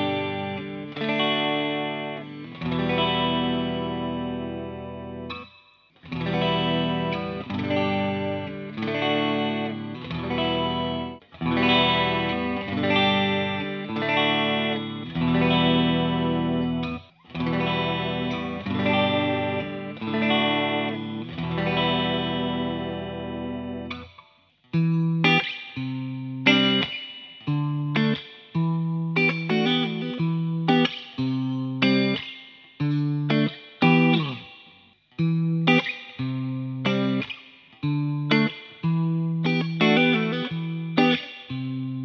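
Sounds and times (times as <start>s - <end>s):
electric guitar chords strummed: 0.0s - 42.0s.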